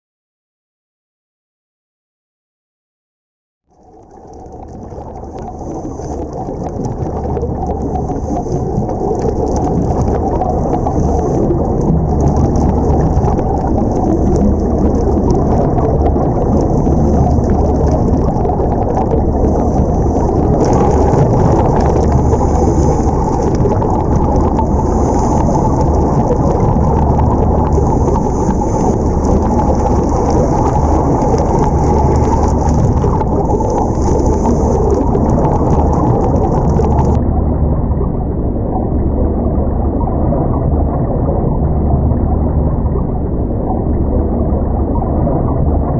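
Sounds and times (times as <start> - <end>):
muffled underwater rumble: 3.7 - 45.9.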